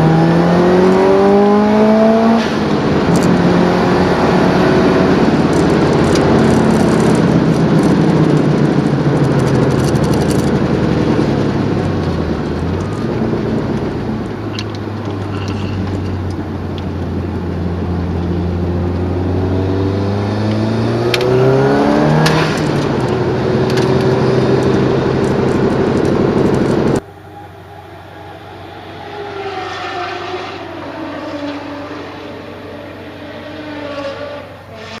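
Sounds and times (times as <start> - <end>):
car engine revving at speed: 0.0 - 35.0.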